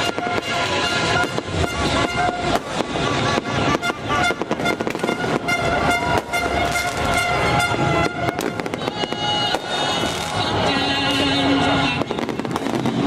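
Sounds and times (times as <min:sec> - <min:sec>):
held horn tones: 0:00.0 - 0:13.0.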